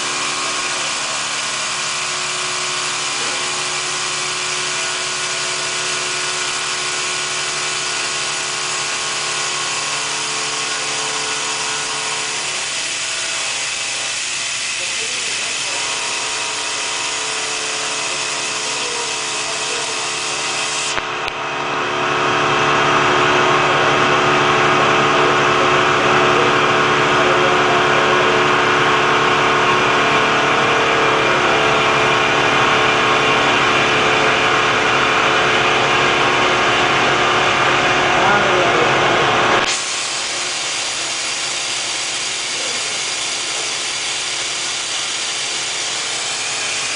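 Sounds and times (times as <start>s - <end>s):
milling machine running: 0.0s - 46.9s.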